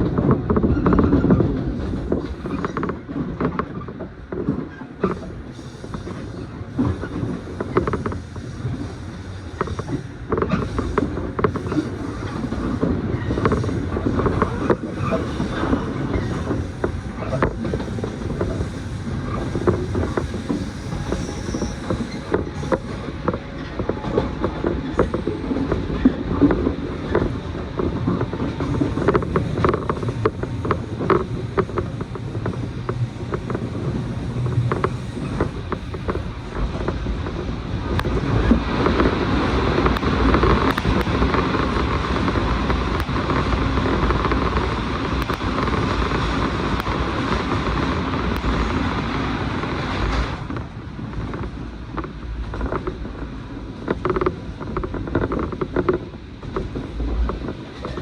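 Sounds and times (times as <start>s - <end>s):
train carriage clicks and creaks: 0.0s - 58.0s
train wheels rumbling on rails: 0.0s - 58.0s.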